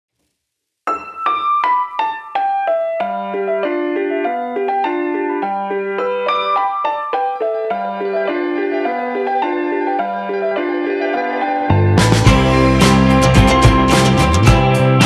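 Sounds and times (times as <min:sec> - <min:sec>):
piano-like keyboard music: 0:00.9 - 0:15.0.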